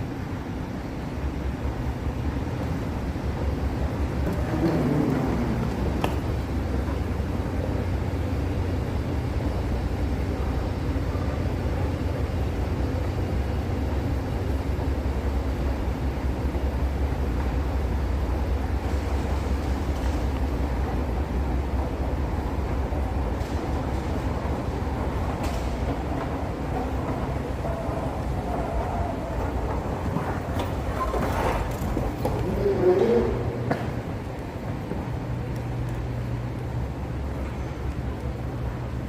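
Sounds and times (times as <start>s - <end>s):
vehicle rumble: 0.6s - 39.0s.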